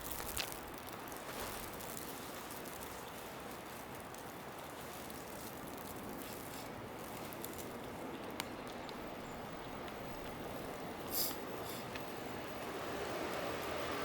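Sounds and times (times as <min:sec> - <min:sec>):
city hiss: 0:00.0 - 0:14.0.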